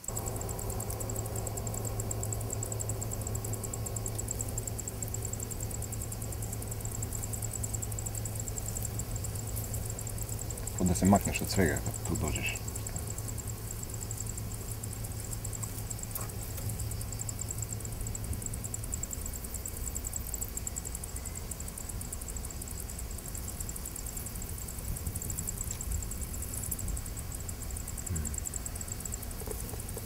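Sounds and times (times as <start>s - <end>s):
continuous low rumble: 0.0s - 30.0s
insects chirping: 0.0s - 30.0s.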